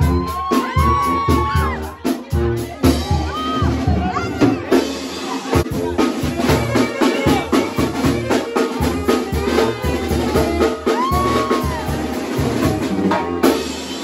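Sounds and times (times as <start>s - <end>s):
brass band playing: 0.0s - 14.0s
drum kit and cymbals: 0.0s - 14.0s
tuba bass line: 0.0s - 14.0s.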